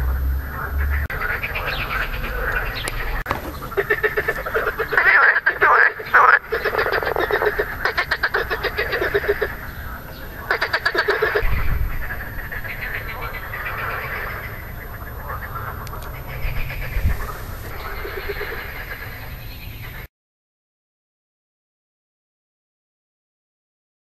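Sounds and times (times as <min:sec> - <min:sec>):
frogs croaking: 0:00.0 - 0:20.1.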